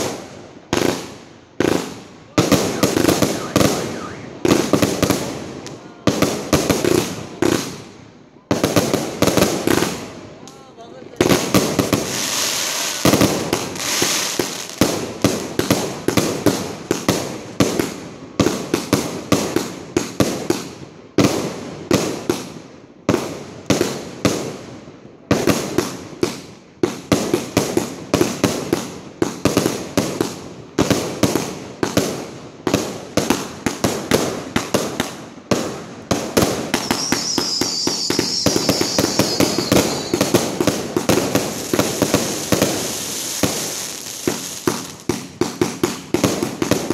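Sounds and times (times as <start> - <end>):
fireworks bangs: 0.0 - 10.3, 11.1 - 46.9.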